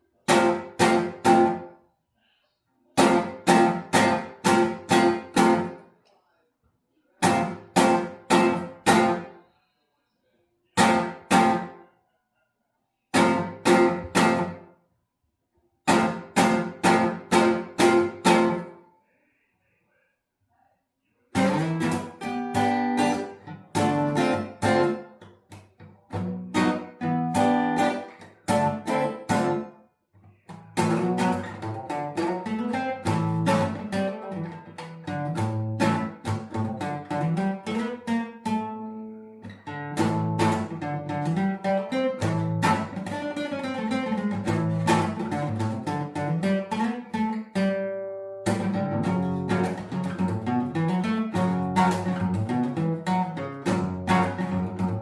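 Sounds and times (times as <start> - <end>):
acoustic guitar strumming: 0.1 - 1.7, 3.0 - 5.8, 7.2 - 9.4, 10.8 - 11.8, 13.1 - 14.7, 15.8 - 18.9, 21.3 - 29.8, 30.5 - 55.0.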